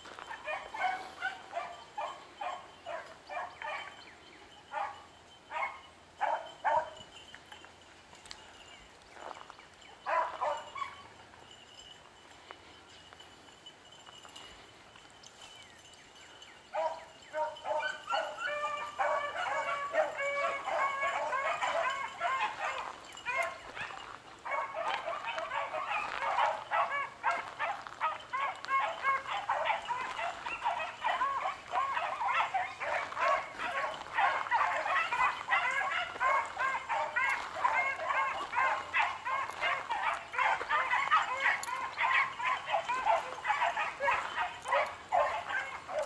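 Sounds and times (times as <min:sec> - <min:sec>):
dogs baying and barking: 0:00.0 - 0:46.0.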